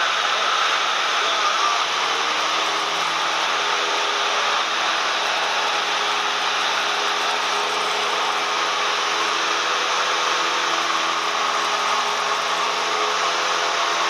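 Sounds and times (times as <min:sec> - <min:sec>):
propeller plane engine droning: 0:00.8 - 0:14.0.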